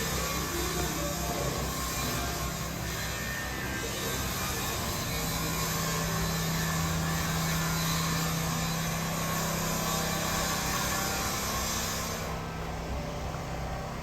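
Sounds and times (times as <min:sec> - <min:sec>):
construction machinery motor hum: 0:00.0 - 0:14.0.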